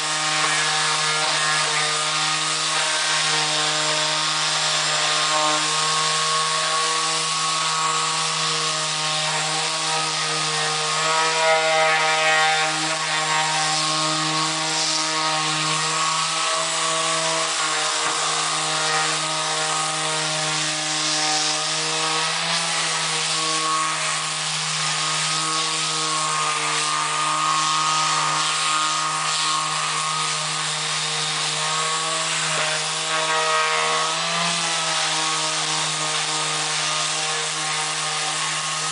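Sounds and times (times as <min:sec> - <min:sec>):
orbital sander sanding: 0:00.0 - 0:38.9.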